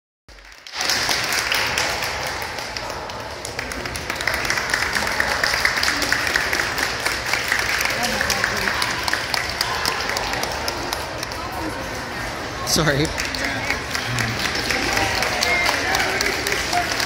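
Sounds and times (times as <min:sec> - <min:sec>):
spectators applauding: 0:00.3 - 0:17.0.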